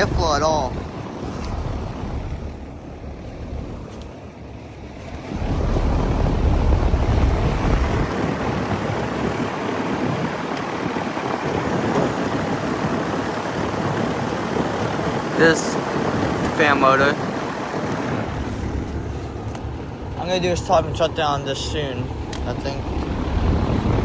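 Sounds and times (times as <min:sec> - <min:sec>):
air conditioner unit running: 0:00.0 - 0:24.0
fan air buffeting microphone: 0:00.0 - 0:24.0.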